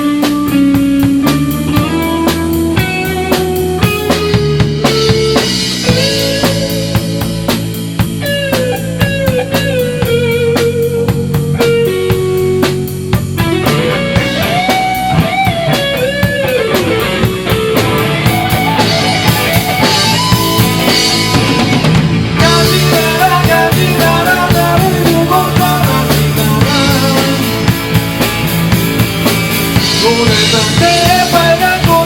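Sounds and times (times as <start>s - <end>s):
drum kit: 0.0s - 32.0s
electric guitar lead melody: 0.0s - 32.0s.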